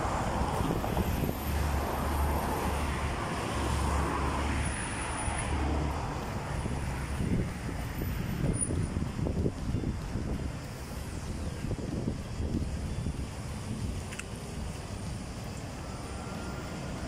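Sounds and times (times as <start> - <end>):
wind buffeting microphone: 0.0 - 3.8, 5.5 - 15.4
street traffic passing: 0.0 - 17.0.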